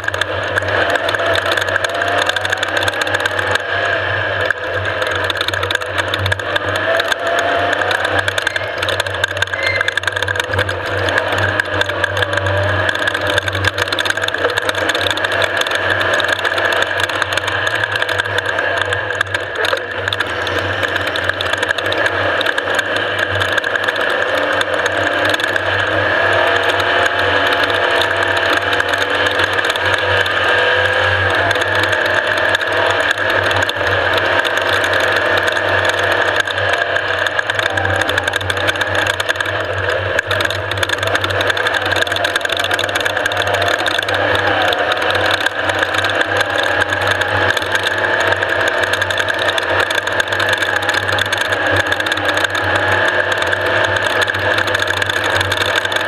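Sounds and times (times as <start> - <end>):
mechanical rattling: 0.0 - 56.0
race vehicle engine running: 0.0 - 56.0.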